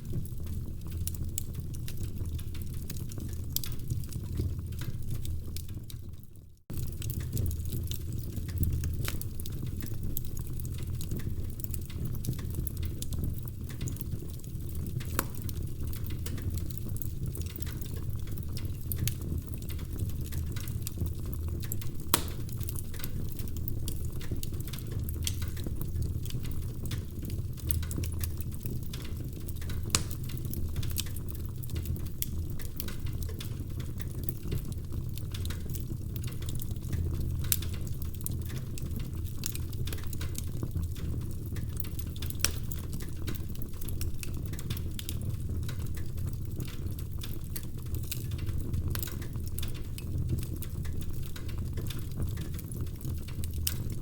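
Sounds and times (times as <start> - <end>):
fire rumbling: 0.0 - 54.0
wood crackling and popping: 0.0 - 54.0.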